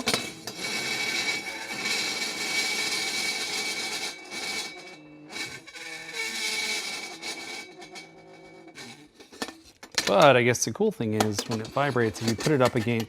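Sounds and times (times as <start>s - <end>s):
dry ice screeching on metal pan: 0.0s - 10.3s, 11.3s - 13.0s.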